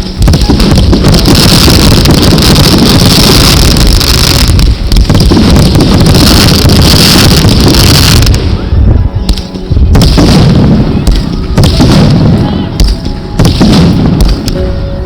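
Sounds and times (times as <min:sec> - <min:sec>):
fireworks barrage roaring and crackling: 0:00.0 - 0:15.0.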